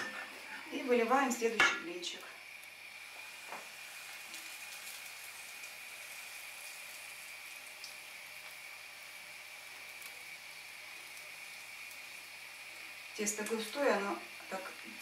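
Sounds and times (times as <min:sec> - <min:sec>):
batter sizzling in frying pan: 0:00.0 - 0:15.0.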